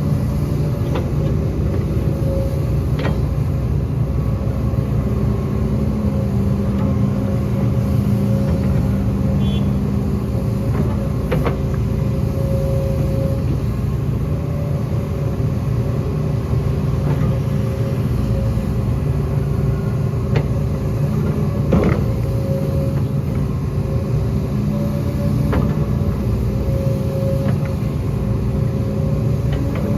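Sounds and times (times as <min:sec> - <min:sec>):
diesel machinery running: 0:00.0 - 0:29.9.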